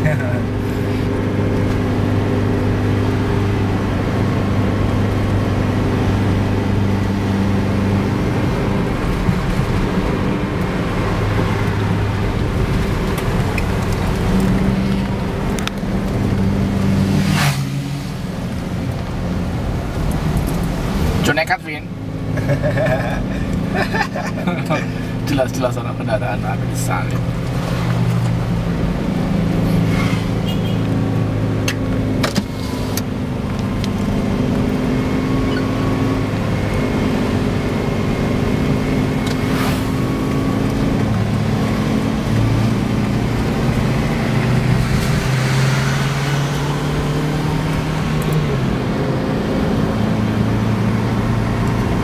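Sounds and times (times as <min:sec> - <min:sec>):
car engine pulling uphill: 0:00.0 - 0:52.0.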